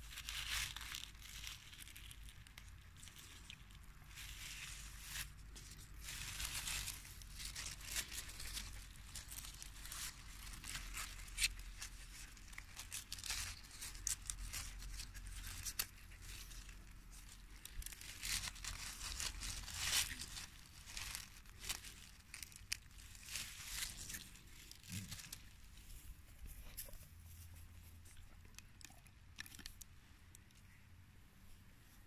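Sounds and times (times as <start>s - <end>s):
leaf tearing: 0.0s - 25.7s
grass leaves rustling and crackling: 0.0s - 29.8s.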